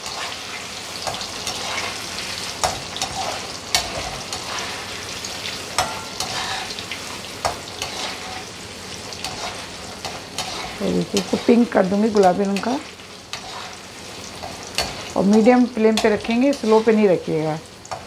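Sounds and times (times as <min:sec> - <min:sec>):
metal skimmer scraping a pan: 0:00.0 - 0:05.0, 0:05.8 - 0:06.8, 0:07.7 - 0:08.5, 0:09.2 - 0:17.0
cheese sizzling in hot oil: 0:00.0 - 0:18.0.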